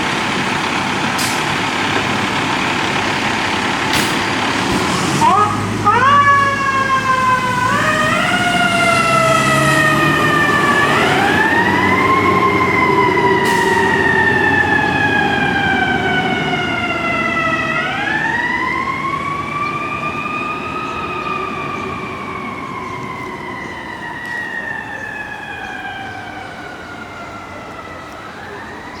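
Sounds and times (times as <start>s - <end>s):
fire truck siren wailing: 0.0s - 29.0s.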